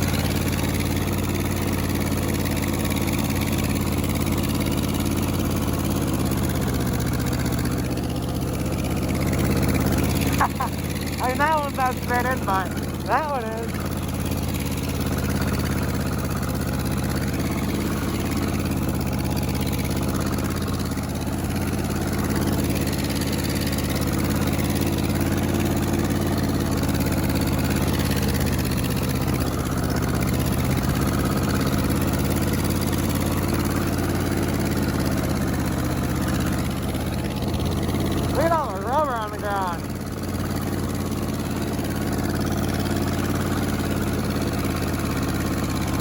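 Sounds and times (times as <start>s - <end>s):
tire spinning on pavement: 0.0s - 46.0s
tractor engine running: 0.0s - 46.0s.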